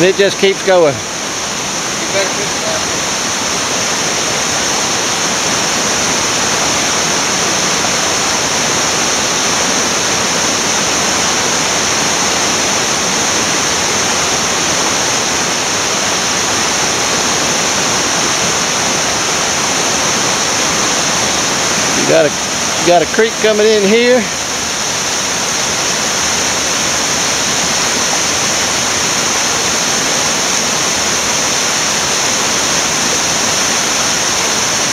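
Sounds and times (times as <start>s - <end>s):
creek rushing over rocks: 0.0s - 34.9s.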